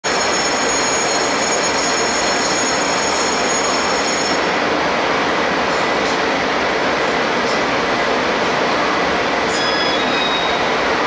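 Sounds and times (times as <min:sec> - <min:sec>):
train equipment rushing hum: 0:00.0 - 0:11.0.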